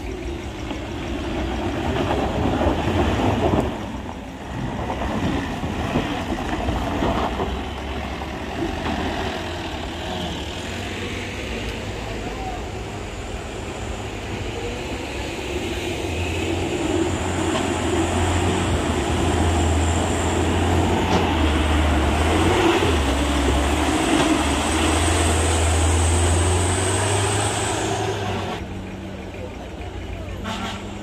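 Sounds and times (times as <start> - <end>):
heavy vehicle engine running: 0.0 - 31.0.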